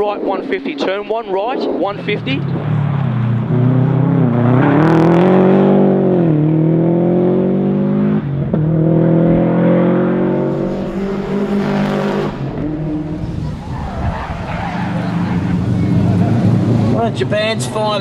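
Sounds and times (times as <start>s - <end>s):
car engine accelerating hard: 2.3s - 18.0s.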